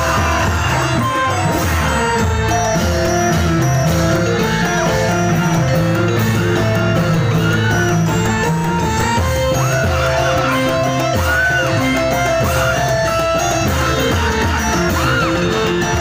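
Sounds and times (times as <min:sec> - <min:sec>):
loud music with steady bass: 0:00.0 - 0:16.0.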